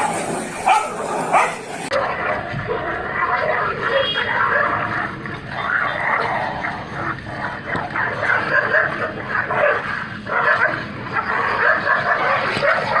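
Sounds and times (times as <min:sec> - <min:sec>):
dogs fighting and barking: 0:00.0 - 0:13.0
dogs yelping: 0:00.0 - 0:13.0.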